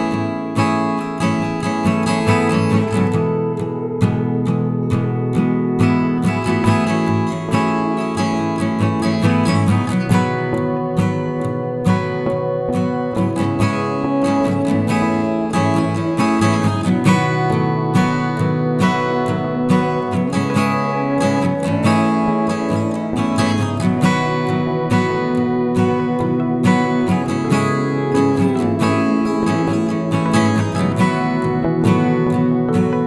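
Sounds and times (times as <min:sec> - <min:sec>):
strummed acoustic guitar music: 0:00.0 - 0:33.0.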